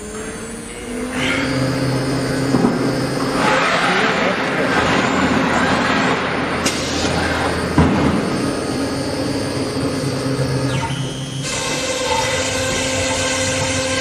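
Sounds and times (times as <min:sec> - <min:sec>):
router spindle whining: 0:00.0 - 0:14.0
wood cutting noise: 0:00.0 - 0:14.0.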